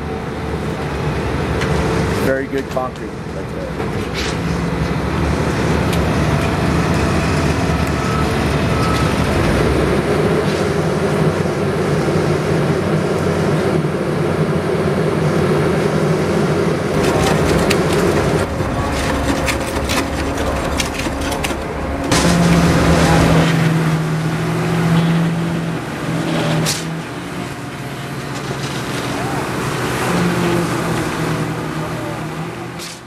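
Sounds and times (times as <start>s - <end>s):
heavy engine running: 0.0s - 33.0s.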